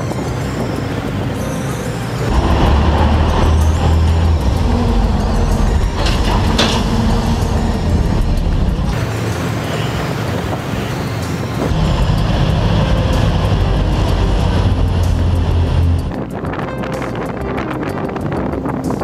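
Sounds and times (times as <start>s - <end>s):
boat engines droning: 0.0s - 19.0s
rushing wind: 0.0s - 19.0s.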